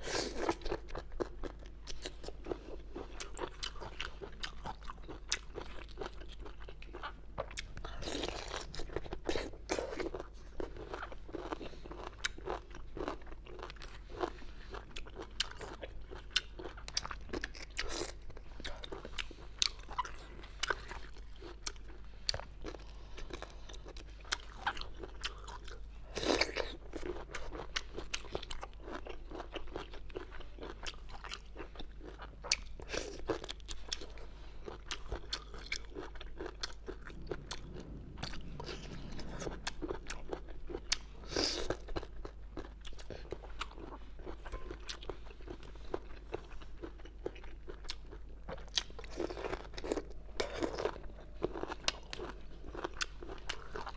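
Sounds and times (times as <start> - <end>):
crunching and chewing: 0.0 - 53.9.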